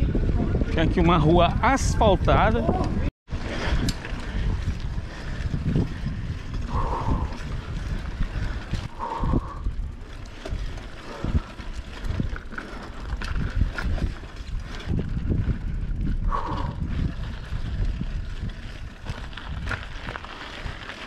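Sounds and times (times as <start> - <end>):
wind buffeting microphone: 0.0 - 21.0
bicycle rattling and knocking: 0.4 - 21.0.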